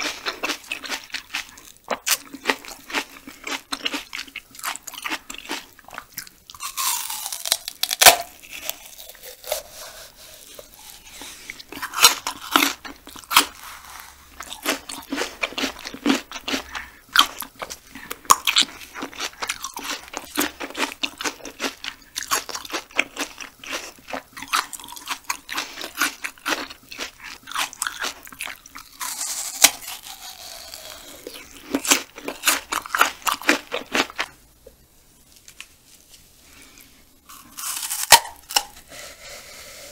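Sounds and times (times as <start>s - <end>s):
crunchy chewing and biting: 0.0s - 34.4s, 36.6s - 39.8s.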